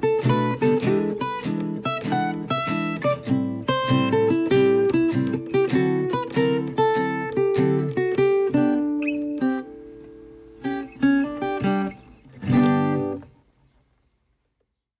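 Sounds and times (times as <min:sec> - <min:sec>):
acoustic guitar strumming chords: 0:00.0 - 0:13.4.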